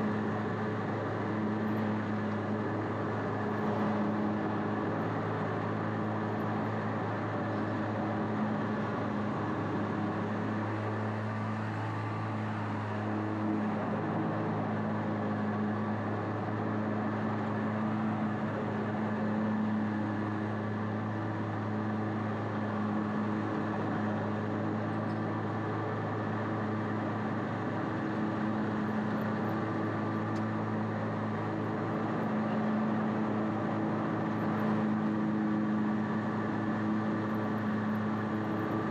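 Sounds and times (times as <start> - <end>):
mower engine droning: 0.0 - 38.9.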